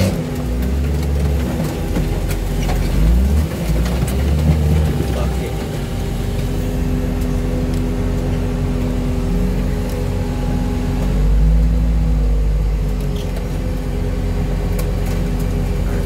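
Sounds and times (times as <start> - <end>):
loader engine running: 0.0 - 16.0.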